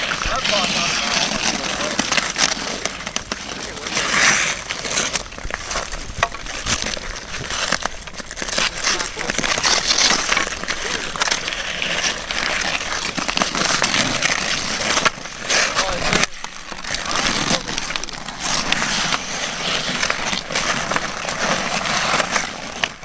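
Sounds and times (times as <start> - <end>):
hockey sticks clicking on ice: 0.0 - 23.0
skate blades scraping ice: 0.0 - 23.0.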